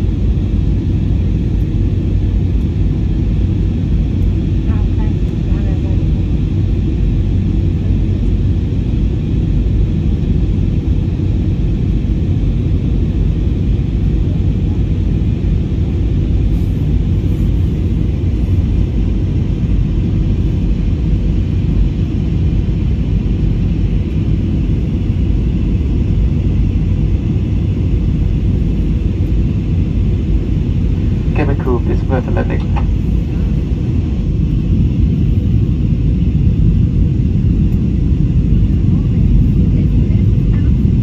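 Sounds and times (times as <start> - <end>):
faint steady hum: 0.0 - 41.0
jet cabin engine rumble: 0.0 - 41.0.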